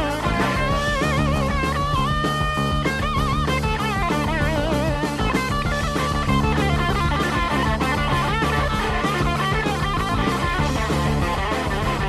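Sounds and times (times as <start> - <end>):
electric lead guitar with vibrato: 0.0 - 12.0
hard rock band playing: 0.0 - 12.0.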